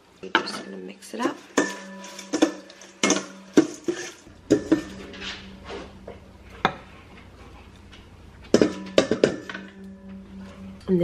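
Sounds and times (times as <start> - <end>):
salad servers clinking on metal bowl: 0.3 - 10.9.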